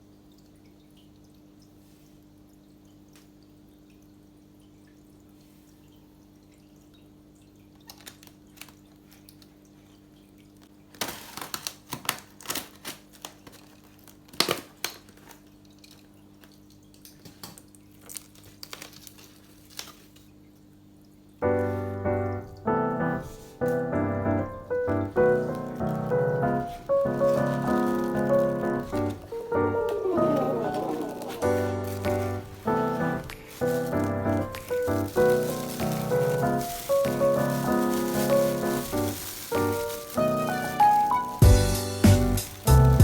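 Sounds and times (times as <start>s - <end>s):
water splashing and dripping: 0.0s - 43.0s.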